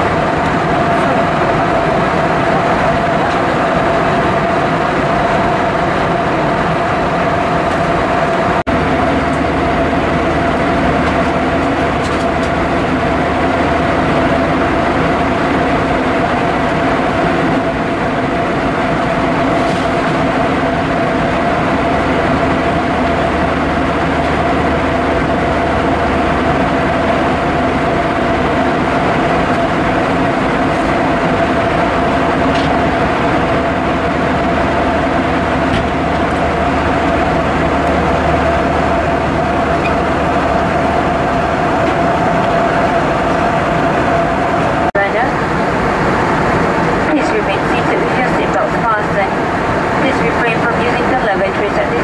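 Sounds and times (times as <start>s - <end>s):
rush of air in aircraft cabin: 0.0s - 51.9s
jet engines droning: 0.0s - 52.0s
steady humming tone: 0.0s - 52.0s.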